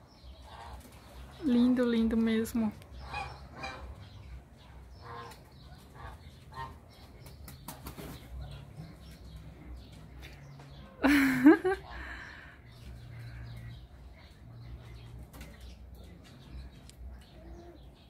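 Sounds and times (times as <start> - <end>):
soft bird calls: 0.0 - 18.0.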